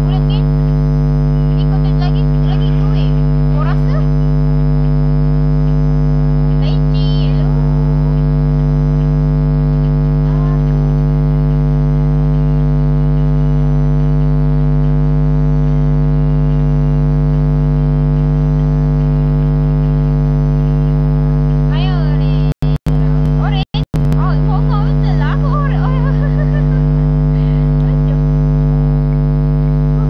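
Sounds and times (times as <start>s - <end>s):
loud electrical hum: 0.0s - 30.0s.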